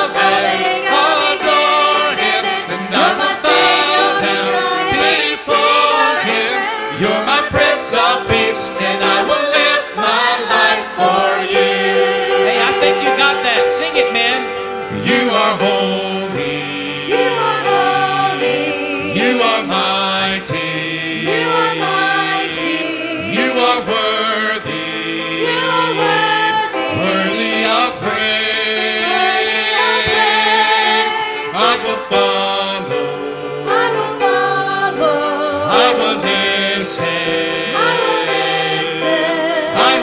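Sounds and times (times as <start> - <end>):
group singing a praise song: 0.0 - 40.0
instrumental accompaniment: 0.0 - 40.0.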